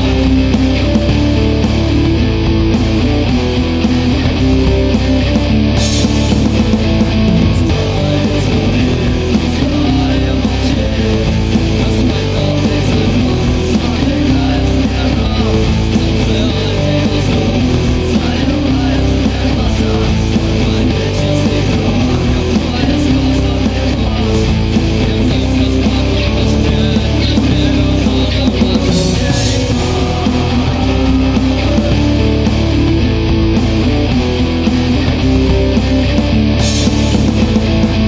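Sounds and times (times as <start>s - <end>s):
rock music with guitars: 0.0s - 38.0s.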